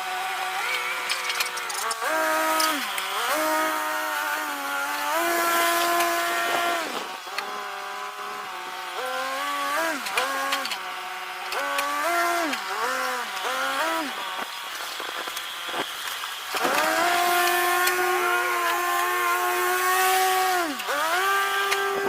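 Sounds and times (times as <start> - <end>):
skid steer engine working: 0.0 - 22.0.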